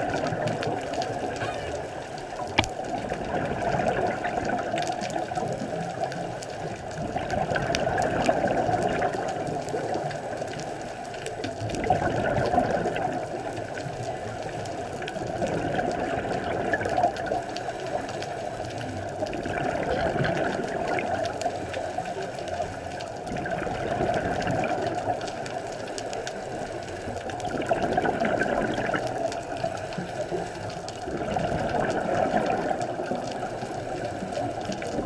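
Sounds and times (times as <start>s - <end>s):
bubbling of exhaled breath: 0.0s - 35.0s
muffled underwater rushing: 0.0s - 35.0s.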